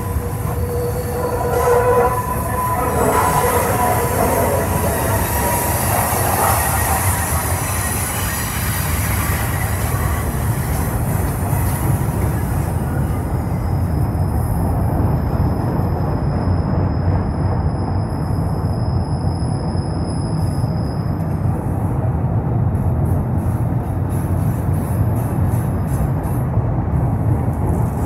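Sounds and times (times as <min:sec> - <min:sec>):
train wheel squeal: 0:00.0 - 0:21.8, 0:23.4 - 0:26.4
freight train cars rolling past: 0:00.0 - 0:28.0.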